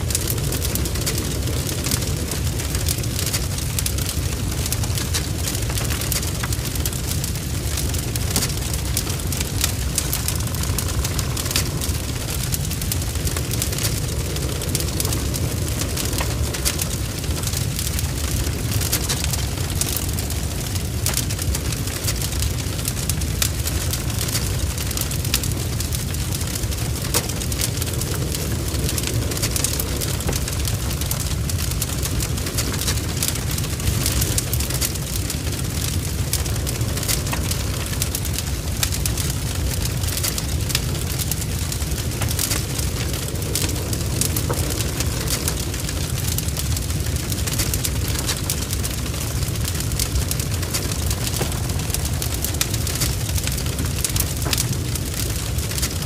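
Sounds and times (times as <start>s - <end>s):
burning wood crackling and popping: 0.0s - 56.0s
wood fire rumbling: 0.0s - 56.0s.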